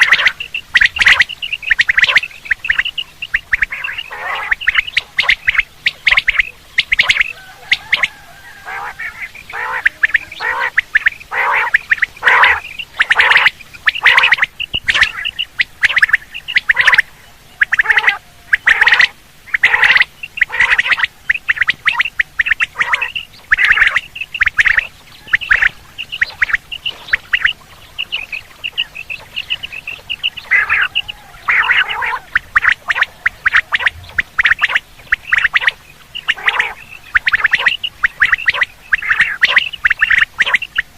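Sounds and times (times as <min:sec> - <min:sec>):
quail calling in shrill bursts: 0:00.0 - 0:40.9.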